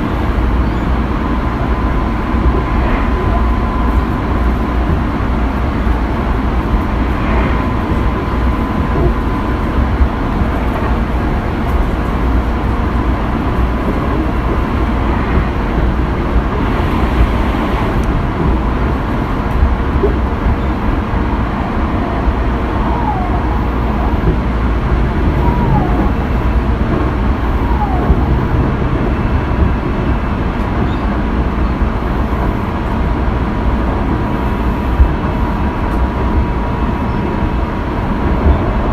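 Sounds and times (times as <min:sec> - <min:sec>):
faint train whine: 0:00.0 - 0:38.9
wheels rumbling on rail: 0:00.0 - 0:38.9.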